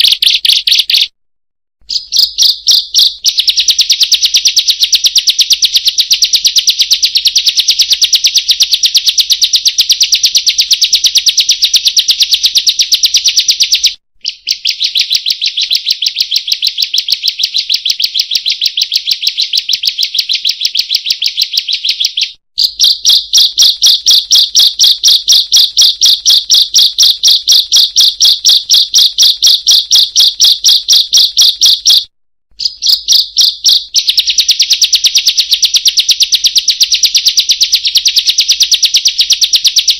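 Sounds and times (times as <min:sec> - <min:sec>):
bird chirping song: 0:00.0 - 0:01.1, 0:01.8 - 0:39.9.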